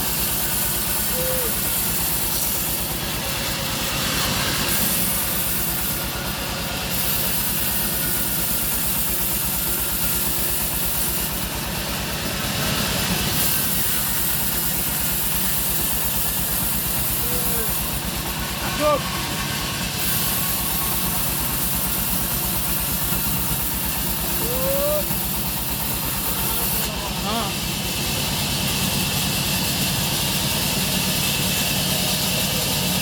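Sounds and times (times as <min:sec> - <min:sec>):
sawmill saw cutting log: 0:00.0 - 0:33.0.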